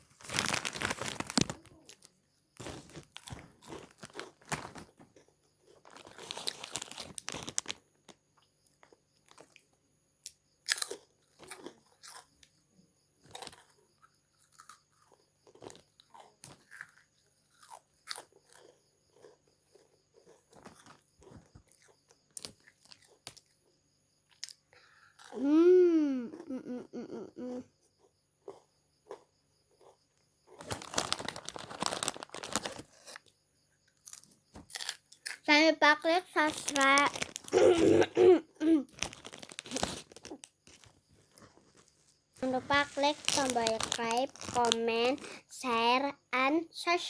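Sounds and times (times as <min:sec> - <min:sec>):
crunchy snacks being chewed: 0:00.0 - 0:25.5, 0:27.8 - 0:45.7.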